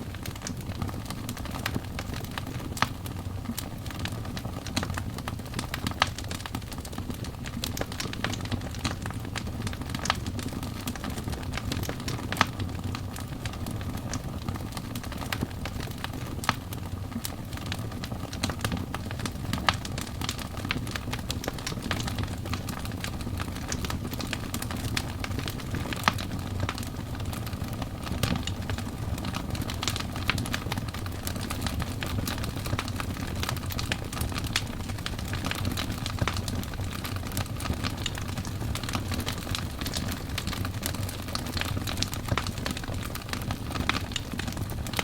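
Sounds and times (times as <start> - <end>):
low rumble of flames: 0.0 - 45.0
wood fire crackling and popping: 0.0 - 45.0.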